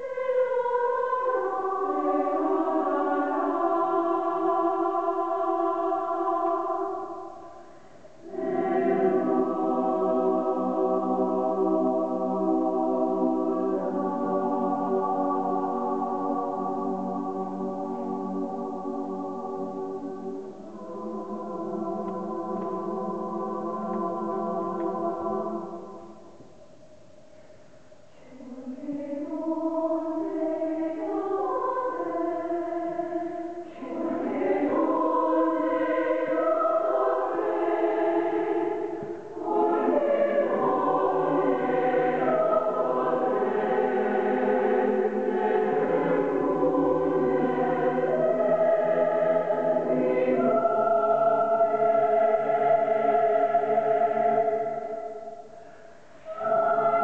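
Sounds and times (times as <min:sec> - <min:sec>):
choir singing: 0:00.0 - 0:26.6, 0:28.0 - 0:57.0.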